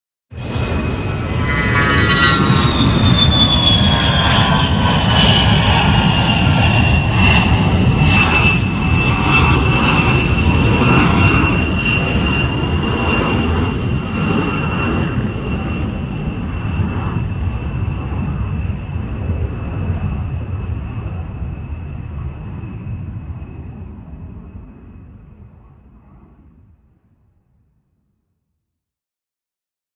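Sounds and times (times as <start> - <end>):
jet engine whine: 0.3 - 27.3
deep rumble: 0.4 - 26.8.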